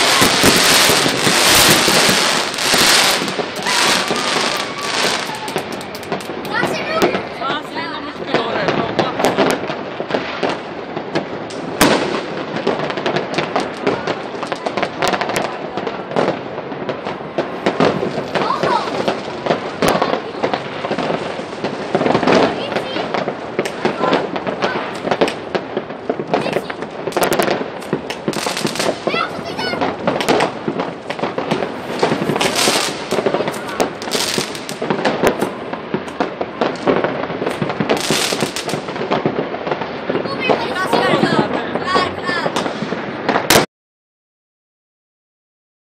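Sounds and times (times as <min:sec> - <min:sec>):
fireworks bangs and crackles: 0:00.0 - 0:43.7.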